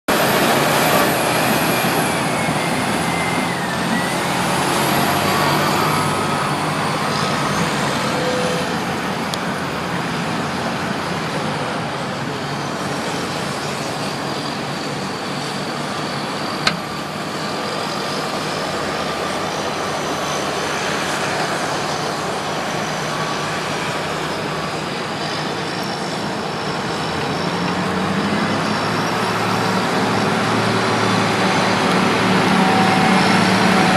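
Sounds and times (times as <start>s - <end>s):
bulldozer running with whines: 0.1s - 33.9s.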